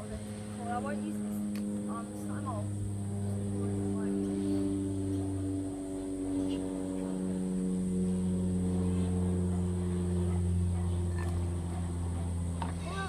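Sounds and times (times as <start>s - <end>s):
faint high whine: 0.0s - 13.0s
low electric hum: 0.0s - 13.0s.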